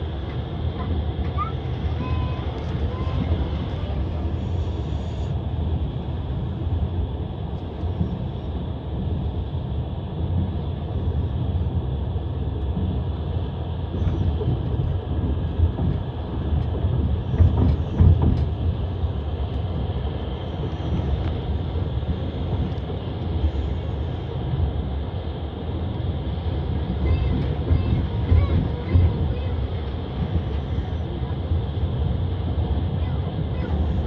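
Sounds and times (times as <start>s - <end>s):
train wheels rumbling and clacking: 0.0s - 34.0s.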